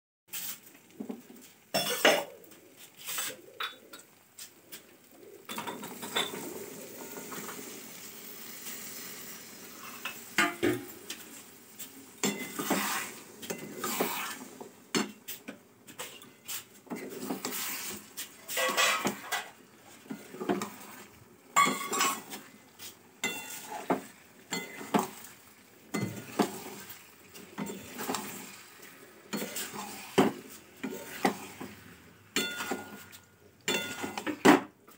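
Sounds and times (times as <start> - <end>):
food sizzling: 0.3 - 34.9
spatula scraping metal wok: 5.4 - 34.6.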